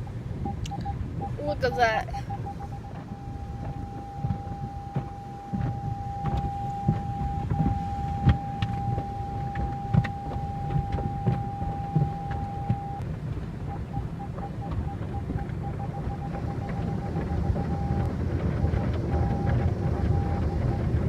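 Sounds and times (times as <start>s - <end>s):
low mechanical rumble: 0.0s - 21.0s
electronic beeps: 0.4s - 13.0s, 13.7s - 21.0s
car wash brushes slapping: 1.7s - 21.0s.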